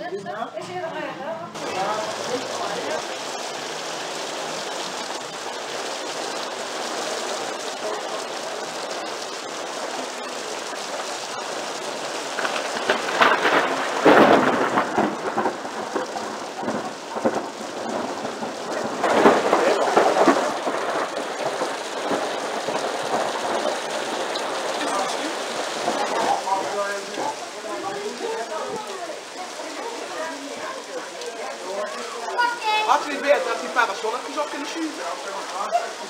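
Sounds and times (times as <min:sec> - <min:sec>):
heavy rain falling: 0:00.9 - 0:36.0.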